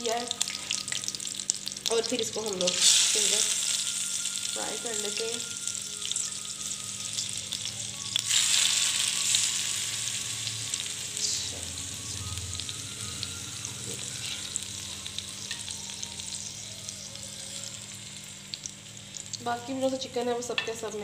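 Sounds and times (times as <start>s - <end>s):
chicken sizzling in a frying pan: 0.0s - 21.0s.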